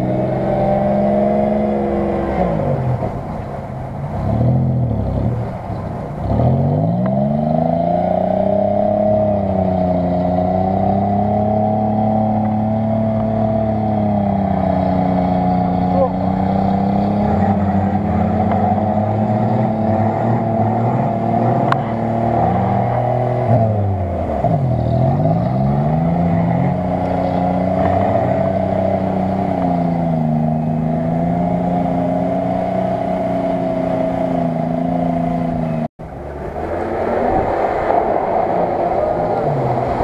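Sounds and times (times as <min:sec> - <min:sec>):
off-road vehicle engine revving: 0:00.0 - 0:40.0.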